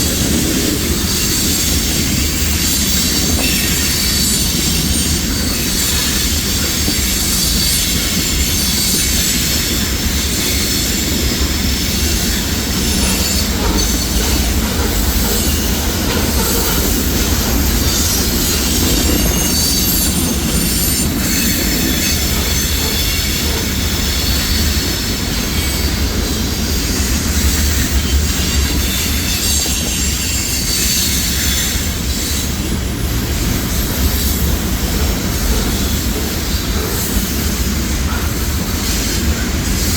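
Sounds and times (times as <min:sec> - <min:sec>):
train wheels rumbling on rail: 0:00.0 - 0:39.9
wheels squealing: 0:00.0 - 0:39.9.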